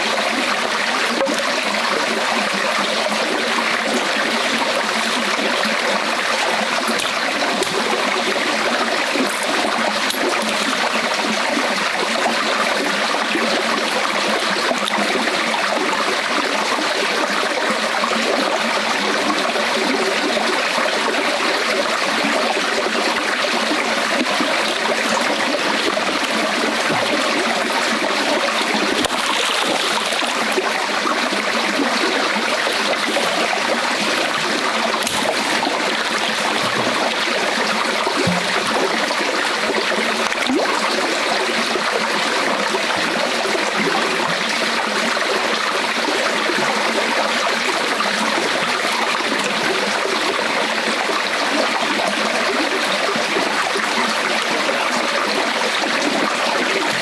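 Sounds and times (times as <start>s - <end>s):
stream water rushing and trickling: 0.0s - 57.0s.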